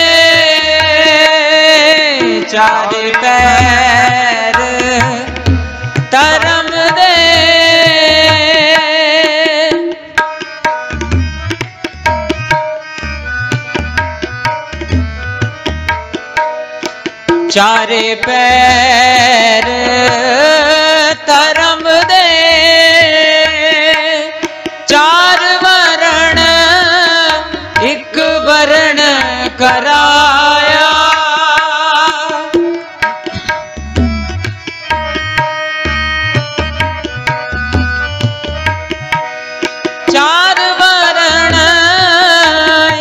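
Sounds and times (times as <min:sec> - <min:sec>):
harmonium melody: 0:00.0 - 0:43.0
tabla rhythm: 0:00.0 - 0:43.0.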